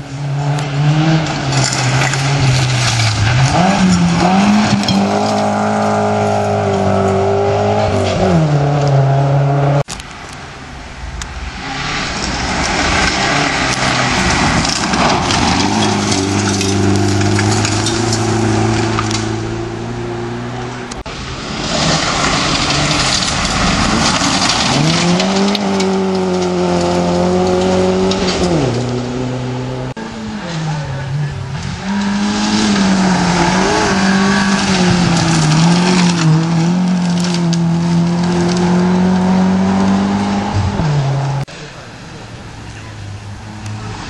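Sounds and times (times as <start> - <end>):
rally car engines at full throttle: 0.0 - 44.0.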